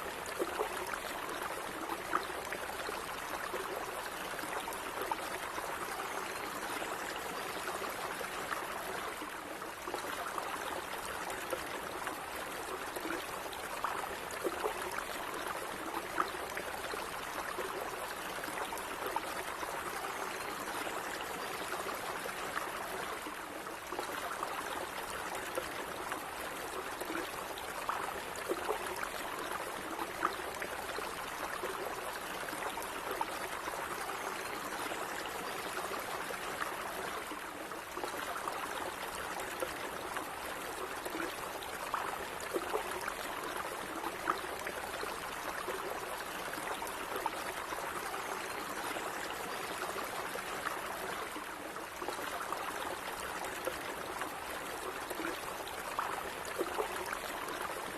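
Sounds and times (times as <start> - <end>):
stream babbling: 0.0 - 57.9.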